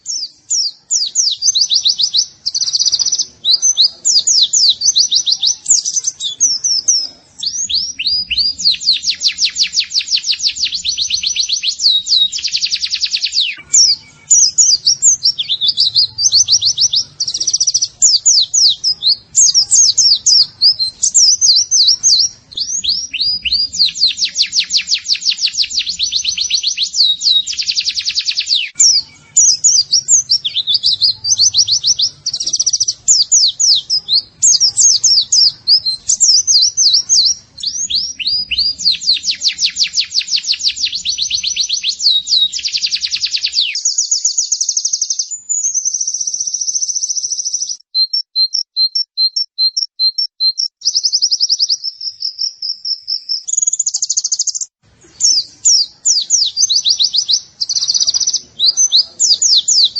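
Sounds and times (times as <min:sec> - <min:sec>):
bird song with chirps and trills: 0:00.0 - 0:59.9.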